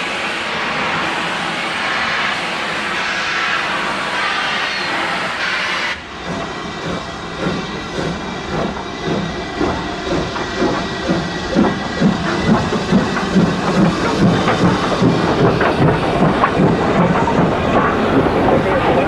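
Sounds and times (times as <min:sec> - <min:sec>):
steam hiss: 0:00.0 - 0:19.0
steam locomotive exhaust beats: 0:00.0 - 0:19.0.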